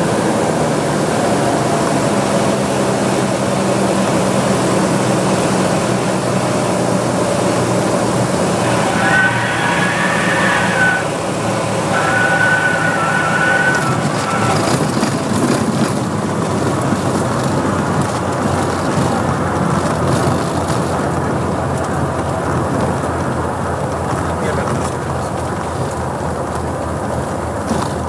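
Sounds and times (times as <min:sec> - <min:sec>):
piston aircraft engine and propeller: 0:00.0 - 0:28.0.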